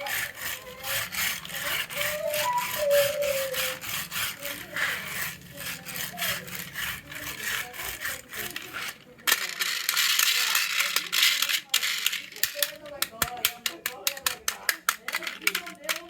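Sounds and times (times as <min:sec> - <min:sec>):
toy vehicles rattling down wooden track: 0:00.0 - 0:16.0.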